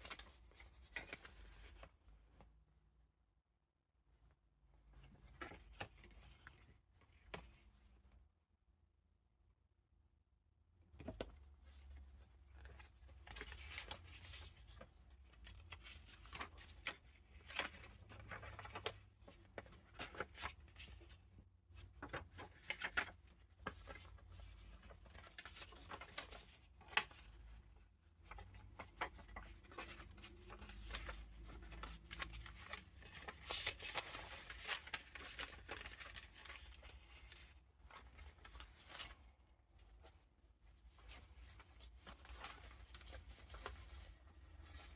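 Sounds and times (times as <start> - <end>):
paper rustling and crinkling: 0.0 - 2.1, 11.0 - 44.9.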